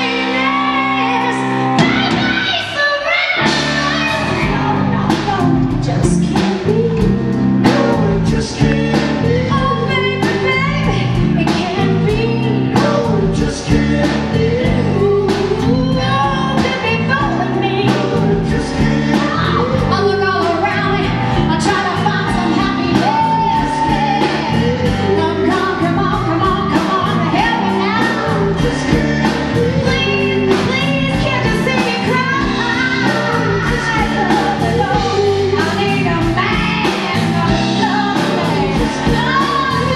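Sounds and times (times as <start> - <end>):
bass: 0.0 - 39.9
electric guitar: 0.0 - 39.9
keyboard: 0.0 - 39.9
woman singing: 0.0 - 39.9
drums steady beat: 3.4 - 39.9.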